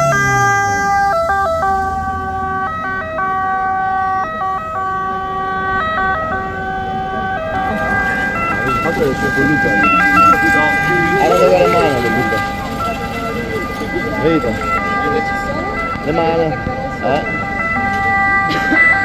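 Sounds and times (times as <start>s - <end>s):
vehicle engine running: 0.0s - 18.8s
ambulance two-tone siren: 0.0s - 19.0s.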